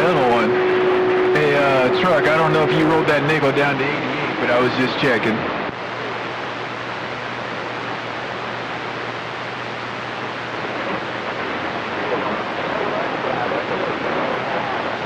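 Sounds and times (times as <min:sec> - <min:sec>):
faint warbling radio transmission: 0:00.0 - 0:15.0
radio receiver hiss: 0:00.0 - 0:15.0
steady low hum: 0:00.0 - 0:15.0.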